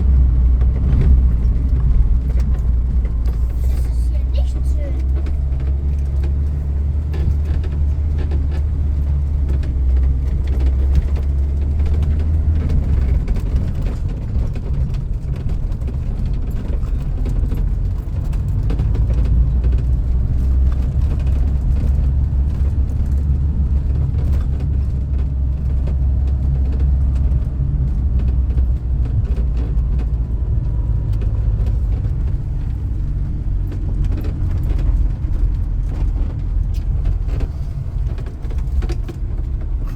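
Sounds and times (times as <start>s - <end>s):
small knocks and rattles: 0.0s - 39.9s
vehicle engine and road rumble: 0.0s - 39.9s.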